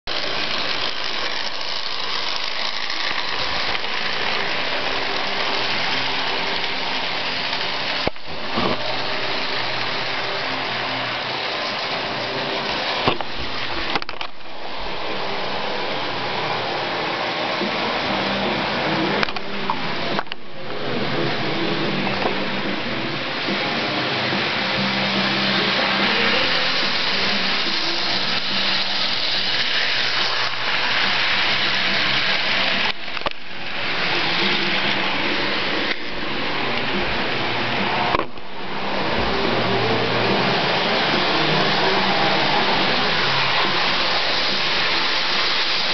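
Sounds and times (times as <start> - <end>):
model train motor and wheels: 0.0 - 45.9.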